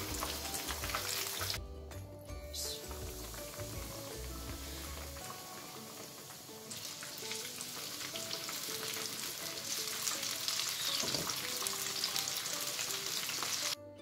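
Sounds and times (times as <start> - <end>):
chicken sizzling in hot oil: 0.0 - 1.6, 2.6 - 13.8.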